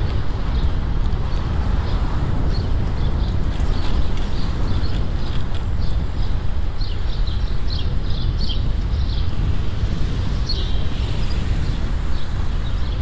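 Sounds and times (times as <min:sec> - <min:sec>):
passing street traffic: 0:00.0 - 0:13.0
wind on microphone: 0:00.0 - 0:13.0.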